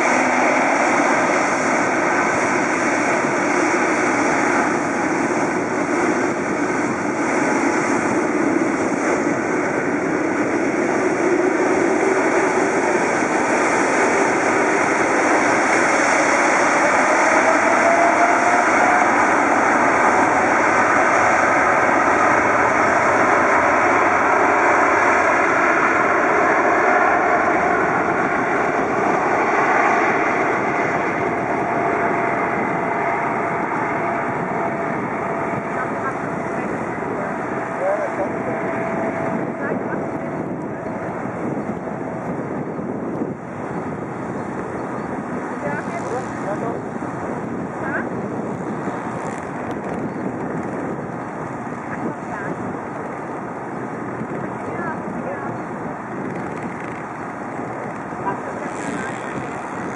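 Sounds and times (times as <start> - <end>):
jet engines running: 0.0 - 59.9
rising engine whine: 0.0 - 59.9.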